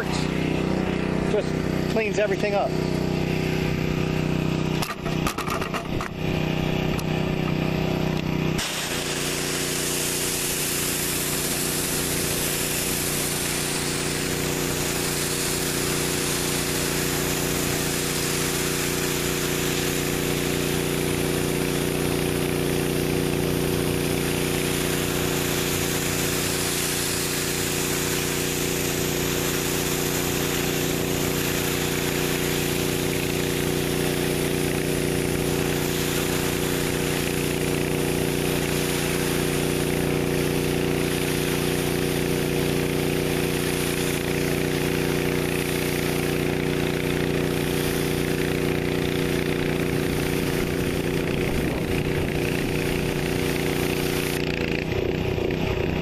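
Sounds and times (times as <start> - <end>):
high-pressure water jets hissing: 0.0 - 56.0
pressure washer engine running: 0.0 - 56.0.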